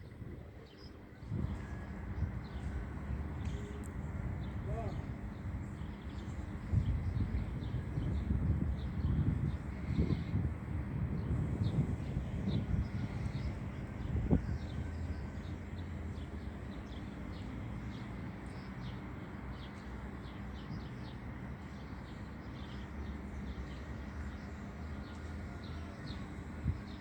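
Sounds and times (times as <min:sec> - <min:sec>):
low outdoor noise: 0:00.0 - 0:27.0.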